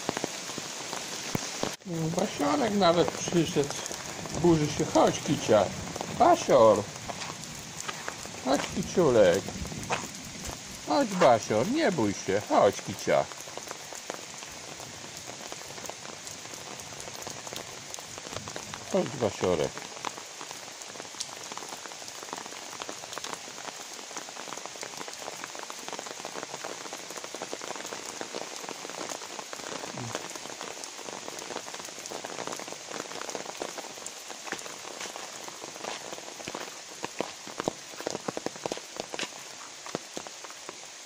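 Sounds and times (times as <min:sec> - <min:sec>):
light rain on wet paving: 0:00.0 - 0:41.0.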